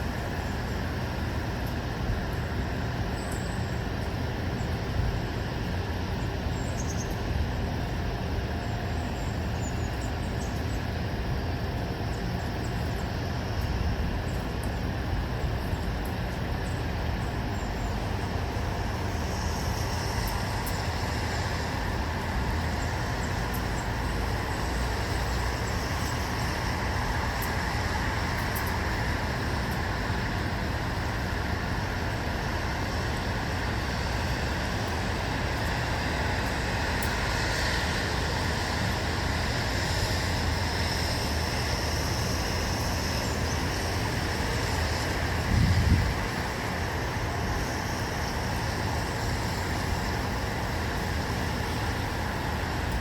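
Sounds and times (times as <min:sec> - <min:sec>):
distant road traffic: 0:00.0 - 0:53.0.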